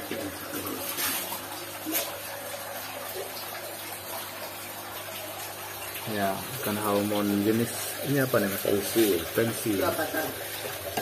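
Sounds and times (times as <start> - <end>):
water trickling into tubs: 0.0 - 11.0.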